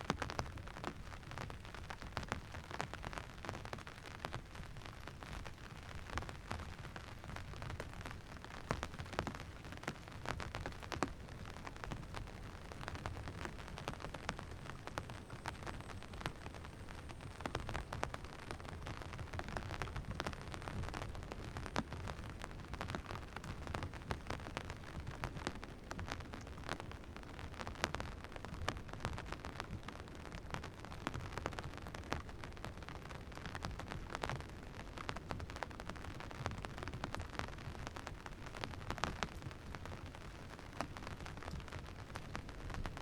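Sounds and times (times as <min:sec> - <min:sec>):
rain drops tapping: 0:00.0 - 0:43.0.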